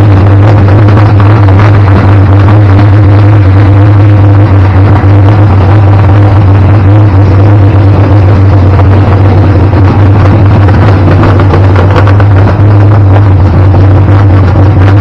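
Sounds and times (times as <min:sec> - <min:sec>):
race car engine idling loudly: 0:00.0 - 0:15.0.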